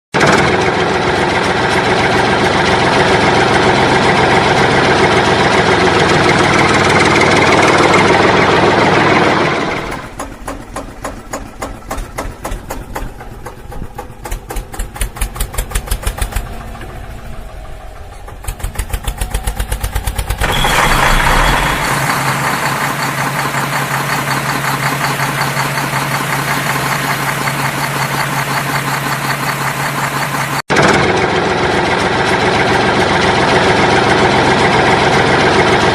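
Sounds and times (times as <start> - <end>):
vehicle engine chugging: 0.2 - 35.9.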